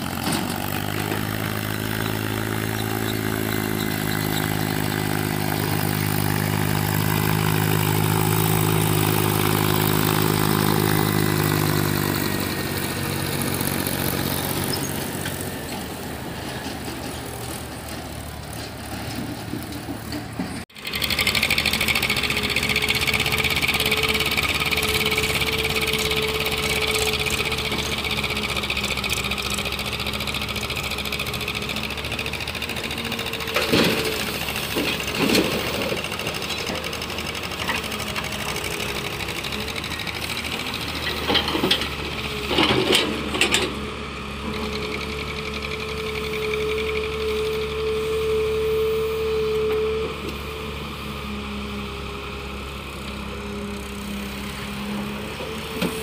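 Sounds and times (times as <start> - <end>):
excavator whining: 0.0 - 56.0
tractor engine running: 0.0 - 56.0.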